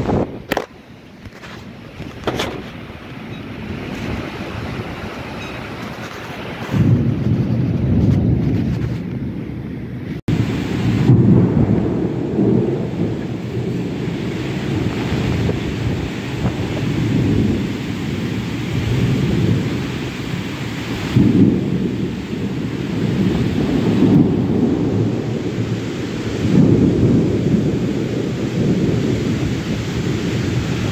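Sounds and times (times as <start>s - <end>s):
heavy rain: 0.0s - 30.9s
wind buffeting microphone: 0.0s - 30.9s.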